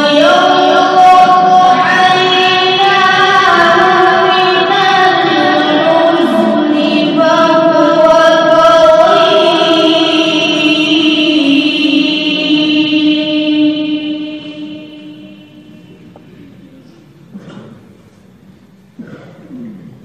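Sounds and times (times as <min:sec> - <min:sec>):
person reciting melodically: 0:00.0 - 0:16.6.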